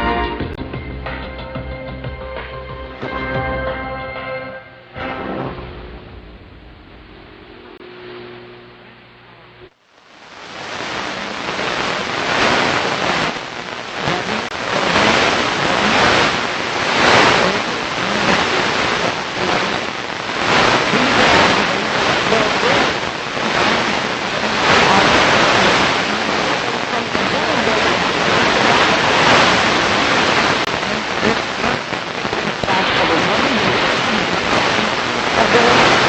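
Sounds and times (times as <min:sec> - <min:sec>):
radio static hissing: 0:05.8 - 0:36.0.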